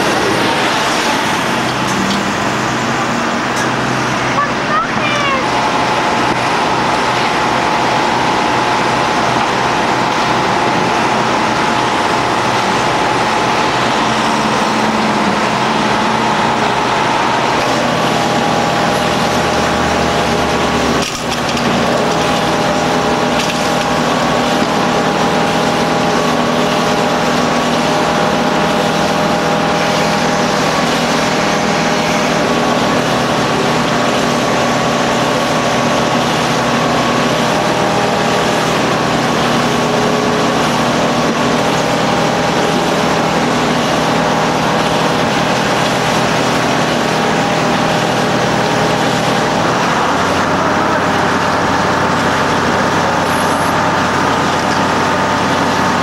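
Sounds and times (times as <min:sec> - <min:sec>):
piling rig mechanical drone: 0:00.0 - 0:56.0.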